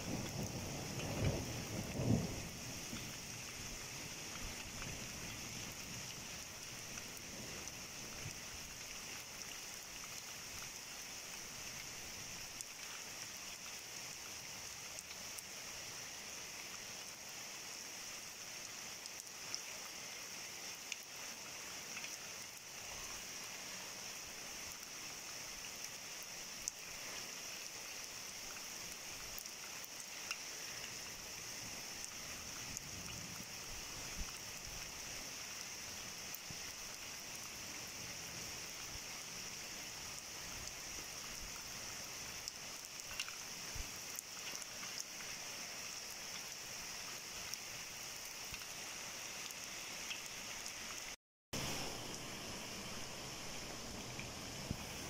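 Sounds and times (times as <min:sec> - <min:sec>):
raindrops ticking close by: 0:00.0 - 0:17.2, 0:18.2 - 0:55.0
heavy rain falling: 0:00.0 - 0:55.0.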